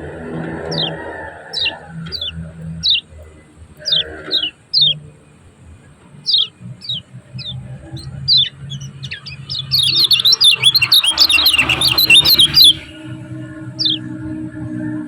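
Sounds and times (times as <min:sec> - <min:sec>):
low background noise: 0:00.0 - 0:15.0
bird calling: 0:00.3 - 0:14.3.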